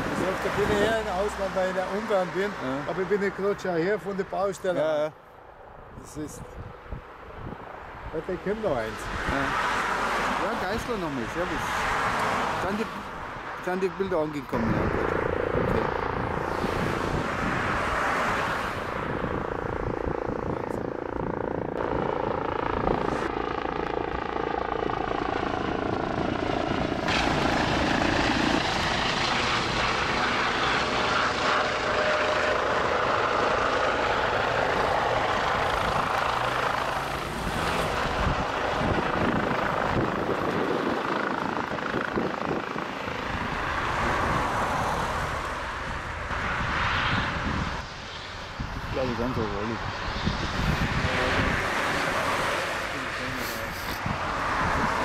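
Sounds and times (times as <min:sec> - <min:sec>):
helicopter flying overhead: 0:00.0 - 0:55.0
helicopter hovering low: 0:00.0 - 0:55.0.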